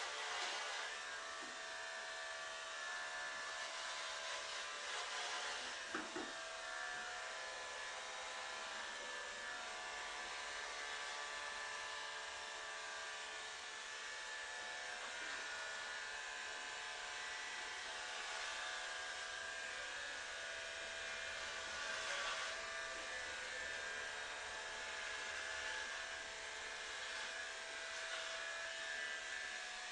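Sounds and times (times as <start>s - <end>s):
electric hair clippers whining: 0.0s - 29.9s.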